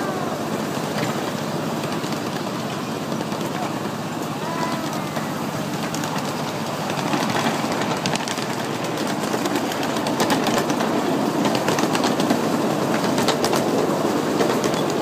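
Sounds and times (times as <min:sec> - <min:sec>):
miniature train wheels rumbling: 0:00.0 - 0:15.0
wheels clacking over rail joints: 0:00.0 - 0:15.0.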